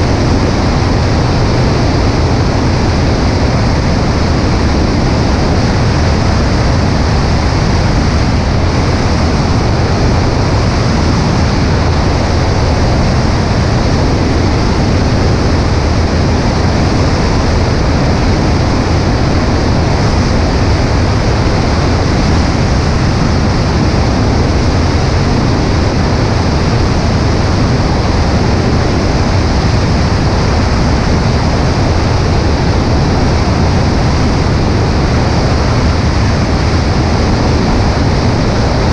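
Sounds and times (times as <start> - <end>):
light aircraft engine droning: 0.0 - 38.9
wind rush: 0.0 - 38.9.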